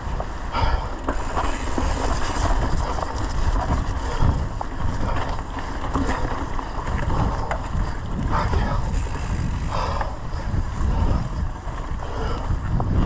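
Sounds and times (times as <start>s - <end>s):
bike clicks and knocks: 0.0s - 13.0s
bike tyres rumbling over dirt: 0.0s - 13.0s
wind buffeting microphone: 0.0s - 13.0s.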